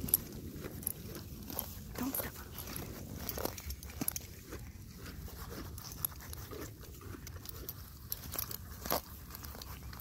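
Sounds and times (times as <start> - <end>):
horse crunching grass: 0.0 - 10.0.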